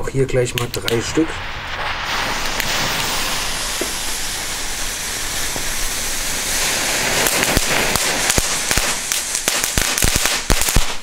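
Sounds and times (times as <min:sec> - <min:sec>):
firecrackers popping: 0:00.4 - 0:11.0
firecracker fuses hissing: 0:00.7 - 0:11.0.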